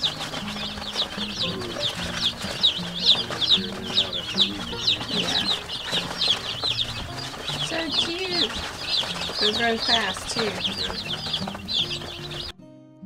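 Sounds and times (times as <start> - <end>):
chicks peeping: 0.0 - 12.5.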